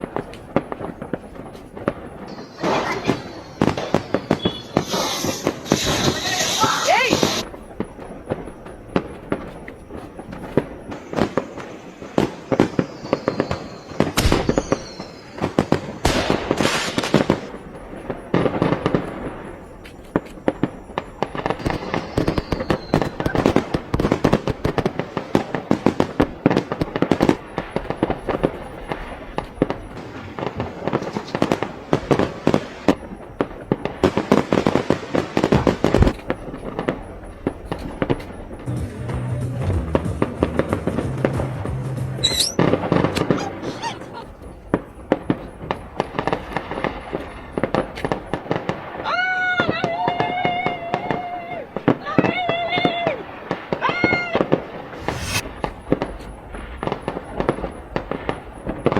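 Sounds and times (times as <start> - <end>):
fireworks cracks and bangs: 0.0 - 58.9
falling firework whistles: 0.1 - 38.7, 42.2 - 51.9, 53.1 - 58.9.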